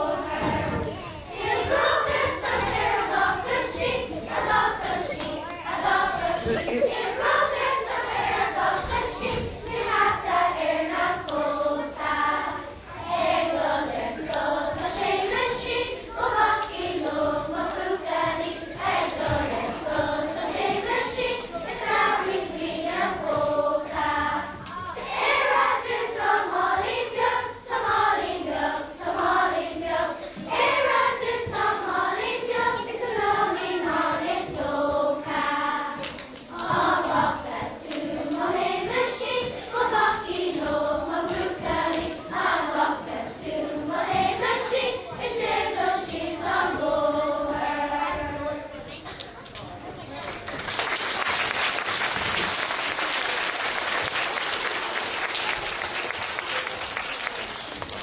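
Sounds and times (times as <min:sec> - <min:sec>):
children's choir singing: 0:00.0 - 0:49.2, 0:49.8 - 0:58.0.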